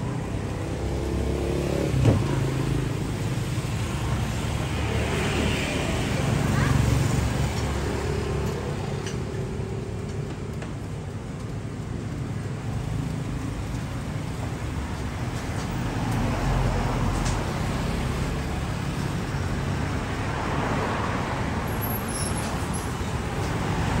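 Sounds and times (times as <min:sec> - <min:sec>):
cars passing: 0:00.0 - 0:11.0, 0:12.1 - 0:24.0.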